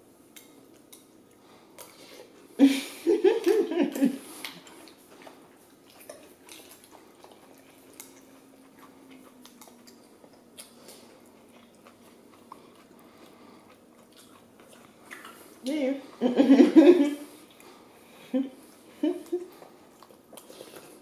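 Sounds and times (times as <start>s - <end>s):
chewing: 0.3s - 2.6s, 3.4s - 16.4s, 17.1s - 21.0s.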